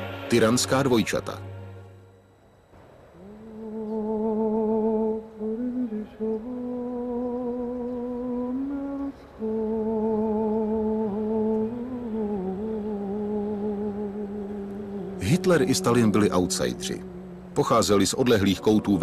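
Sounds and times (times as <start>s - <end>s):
person humming a slow melody: 3.1s - 19.0s.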